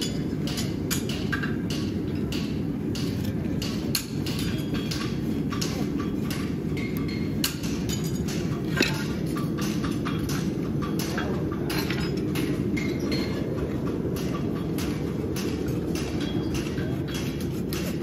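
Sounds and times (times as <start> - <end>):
hammers striking steel: 0.0 - 18.0.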